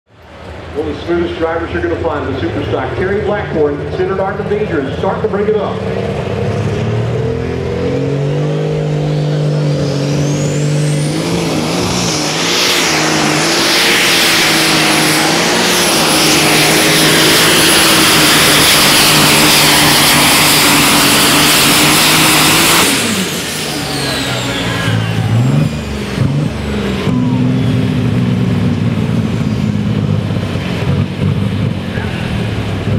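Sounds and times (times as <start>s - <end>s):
tractor engine at high revs: 0.3s - 32.9s.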